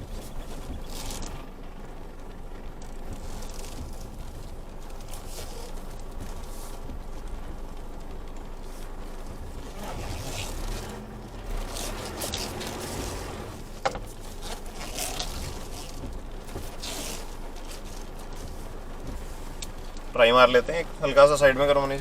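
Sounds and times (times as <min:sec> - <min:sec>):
pickup engine running: 0:00.0 - 0:22.0
tyres hissing on wet ground: 0:00.0 - 0:22.0.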